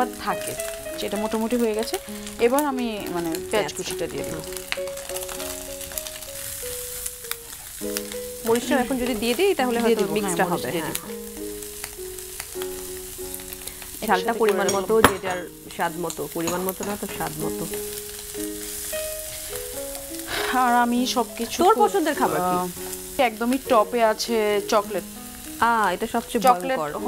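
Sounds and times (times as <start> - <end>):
background music: 0.0 - 27.0
egg and onion sizzling in oil: 0.0 - 27.0.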